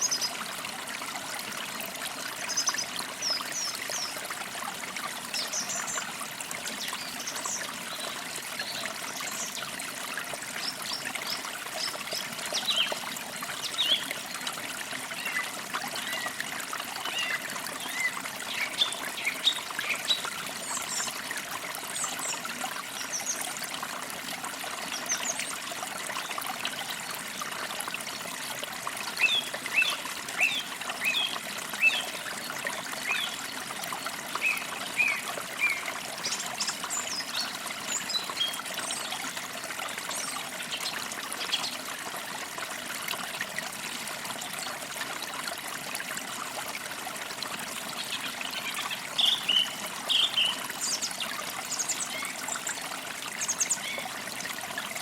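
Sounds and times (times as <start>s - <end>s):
creek trickling: 0.0s - 55.0s.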